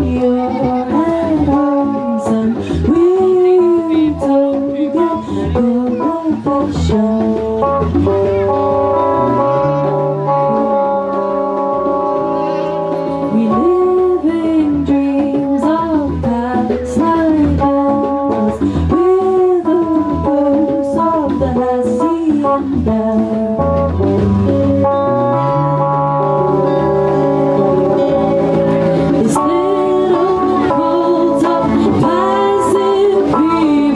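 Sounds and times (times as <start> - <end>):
bending lead melody line: 0.0 - 33.9
live band playing: 0.0 - 33.9.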